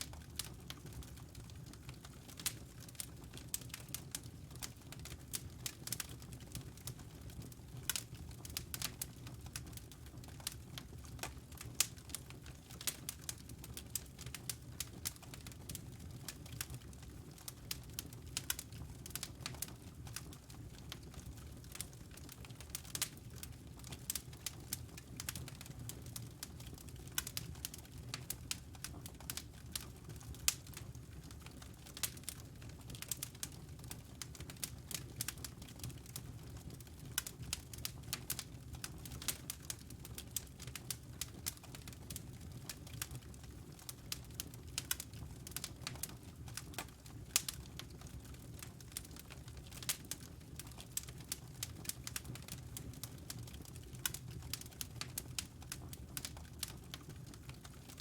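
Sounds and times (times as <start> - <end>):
burning logs crackling and popping: 0.0 - 58.0
low rumble of flames: 0.0 - 58.0.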